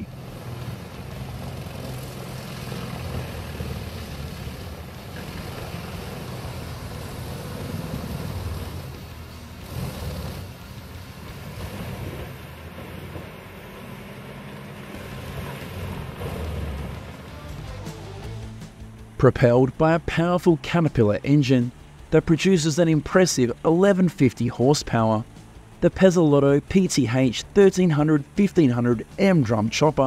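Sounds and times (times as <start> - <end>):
grinder engine droning: 0.0 - 30.0.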